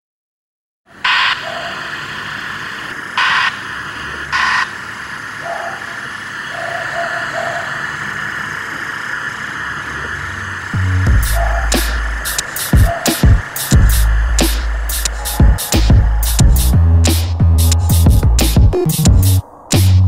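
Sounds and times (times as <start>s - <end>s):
radio static hiss: 0.9s - 20.0s.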